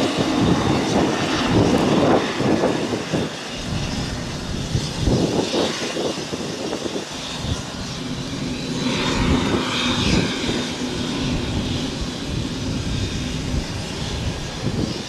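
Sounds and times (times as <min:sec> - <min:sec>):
turboprop engine running: 0:00.0 - 0:15.0.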